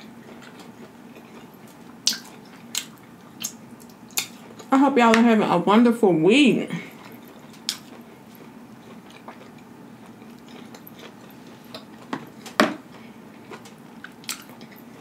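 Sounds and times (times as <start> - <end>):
person chewing: 0.0 - 4.7, 6.9 - 15.0.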